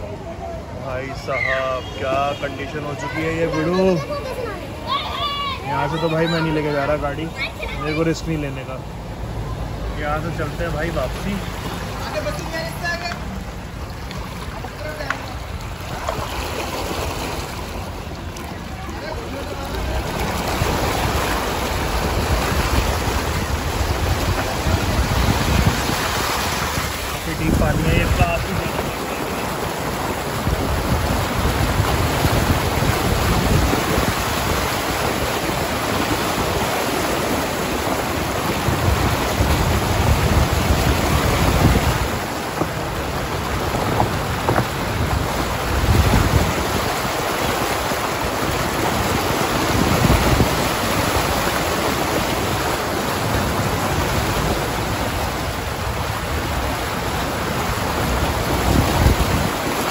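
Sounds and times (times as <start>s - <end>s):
water rushing and splashing: 0.0s - 59.9s
wind buffeting microphone: 11.5s - 59.9s.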